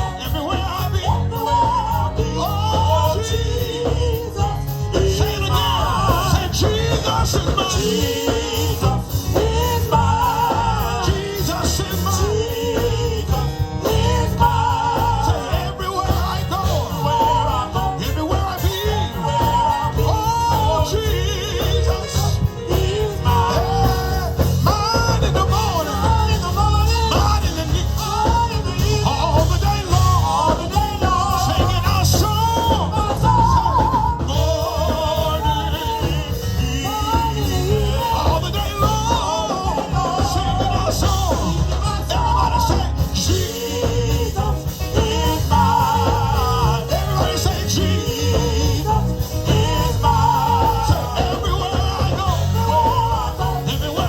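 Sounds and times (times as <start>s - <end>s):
drums: 0.0s - 54.0s
electric bass: 0.0s - 54.0s
gospel band playing: 0.0s - 54.0s
organ runs: 0.0s - 54.0s.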